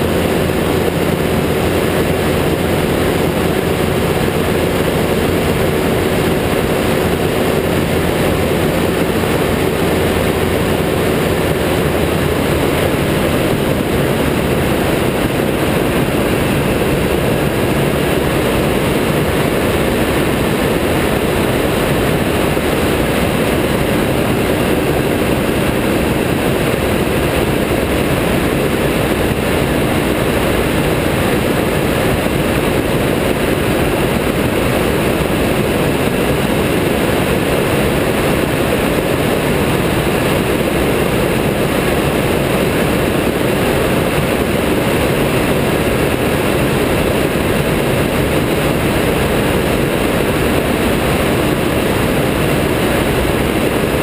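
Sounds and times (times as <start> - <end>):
aircraft engine and propeller running: 0.0 - 54.0
rushing wind: 0.0 - 54.0.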